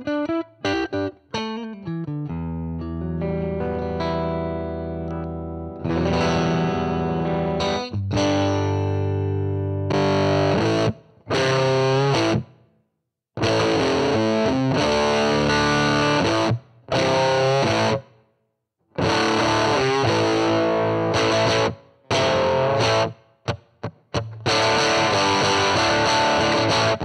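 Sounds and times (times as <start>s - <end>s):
fuzzy distorted electric guitar: 0.0s - 12.6s, 13.4s - 18.2s, 19.0s - 27.0s.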